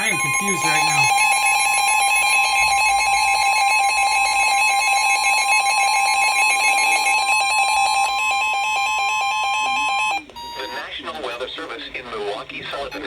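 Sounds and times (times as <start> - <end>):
two-tone alert signal: 0.0 - 10.8.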